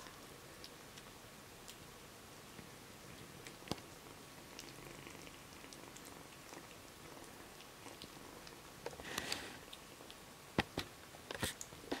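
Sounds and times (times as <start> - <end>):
kitten chewing and lapping: 0.0 - 12.0.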